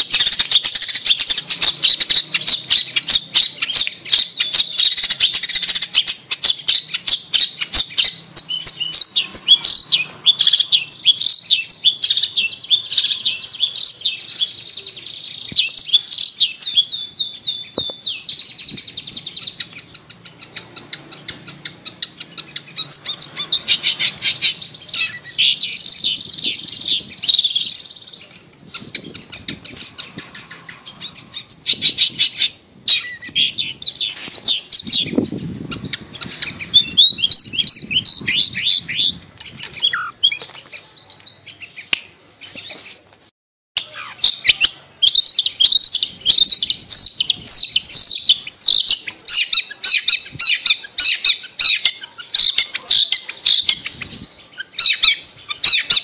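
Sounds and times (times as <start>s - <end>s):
shrike chattering song: 0.0s - 42.8s, 43.8s - 56.0s.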